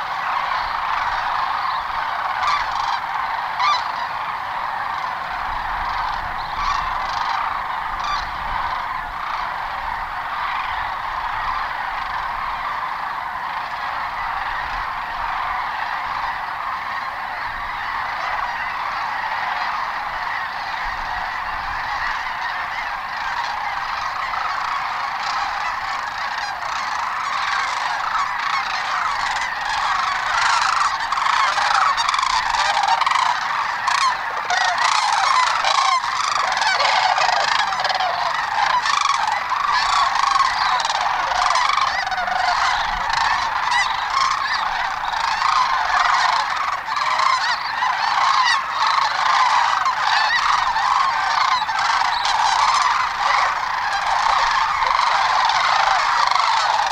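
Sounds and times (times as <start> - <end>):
flock of birds calling: 0.0 - 56.9.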